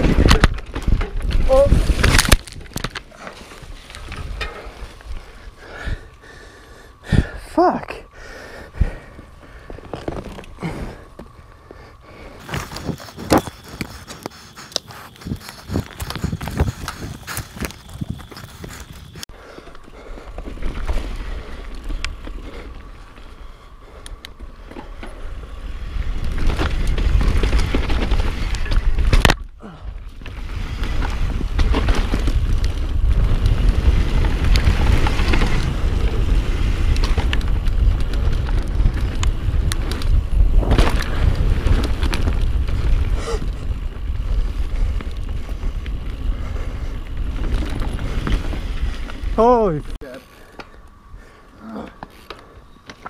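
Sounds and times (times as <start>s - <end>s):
wind buffeting microphone: 0.0s - 52.9s
bike rattling: 0.0s - 53.0s
tyres on dirt: 0.0s - 53.0s.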